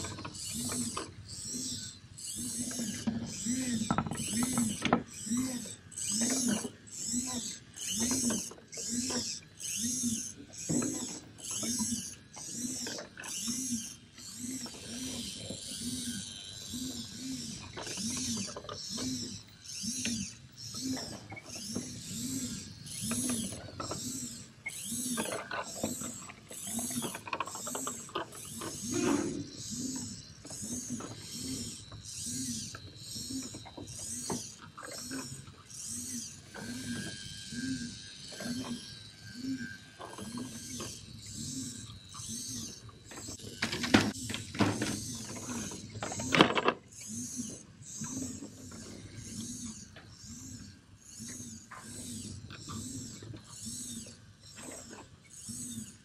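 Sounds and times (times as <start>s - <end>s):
motor whirring: 0.0s - 56.0s.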